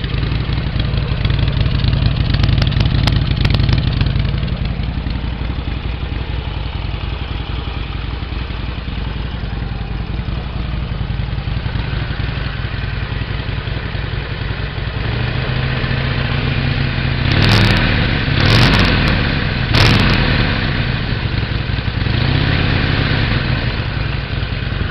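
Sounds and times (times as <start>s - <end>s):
motorcycle engine idling: 0.0s - 24.9s
motorcycle engine revving: 0.0s - 24.9s.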